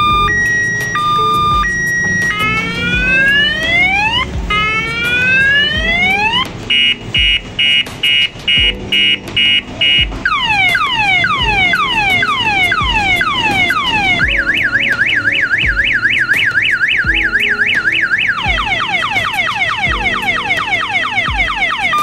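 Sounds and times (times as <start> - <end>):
electronic siren wailing and beeping: 0.0 - 22.0.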